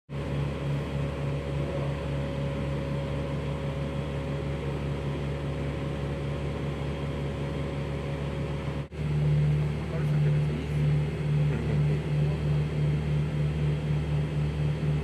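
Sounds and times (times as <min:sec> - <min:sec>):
vacuum pump humming: 0:00.1 - 0:15.0.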